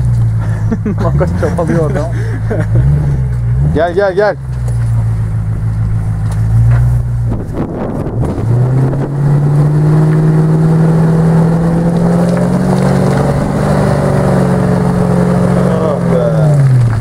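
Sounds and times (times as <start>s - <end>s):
engine pulling under load: 0.0s - 17.0s.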